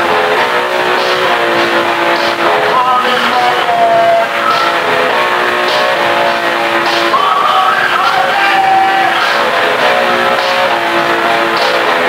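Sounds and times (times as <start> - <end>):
distorted electric guitar: 0.0 - 12.0
drum and cymbal hits: 0.0 - 12.0
person singing: 0.0 - 12.0
punk rock band playing: 0.0 - 12.0.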